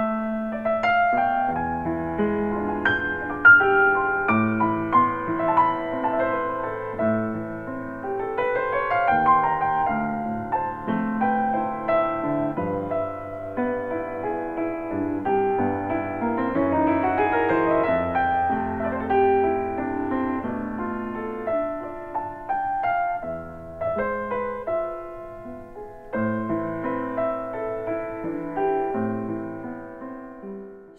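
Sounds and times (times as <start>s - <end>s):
piano music: 0.0s - 30.9s.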